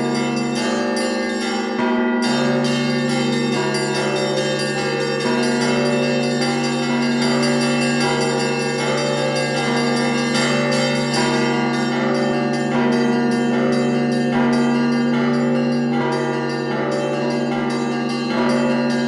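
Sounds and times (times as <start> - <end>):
deep bells humming: 0.0 - 19.0
small church bells ringing: 0.0 - 19.0.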